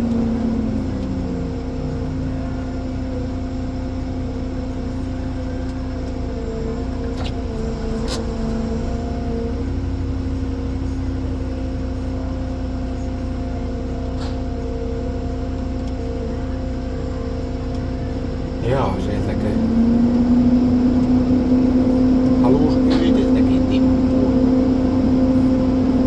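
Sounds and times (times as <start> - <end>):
forestry machine whining: 0.0 - 26.0.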